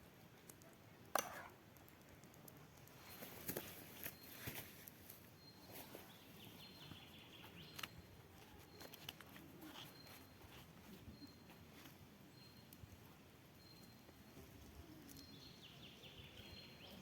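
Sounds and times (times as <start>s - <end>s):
faint high-pitched chirps: 2.9s - 17.0s.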